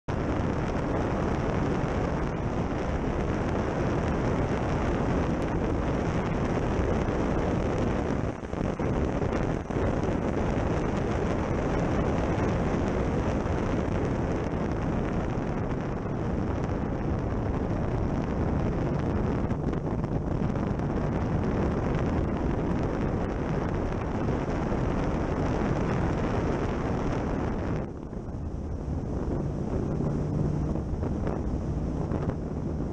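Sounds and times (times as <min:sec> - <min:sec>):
car running and road noise: 0:00.0 - 0:32.9
wind rushing over camera: 0:00.0 - 0:32.9.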